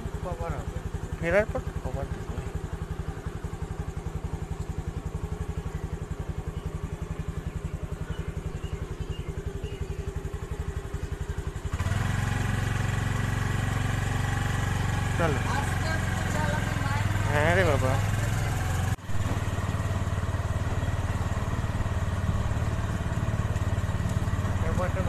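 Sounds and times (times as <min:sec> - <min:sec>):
motorbike engine idling and revving: 0:00.0 - 0:25.0.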